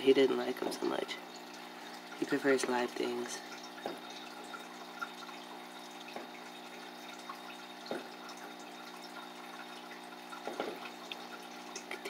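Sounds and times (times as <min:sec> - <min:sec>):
faint water trickle: 0:00.0 - 0:12.0.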